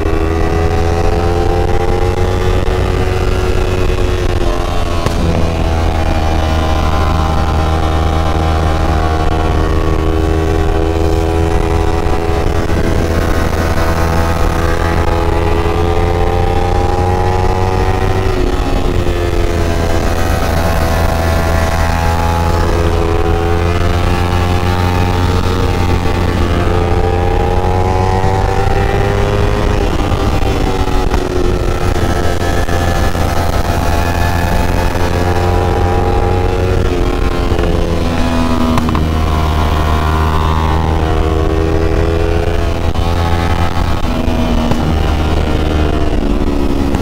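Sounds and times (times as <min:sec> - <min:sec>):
motorcycle engine at high revs: 0:00.0 - 0:47.0.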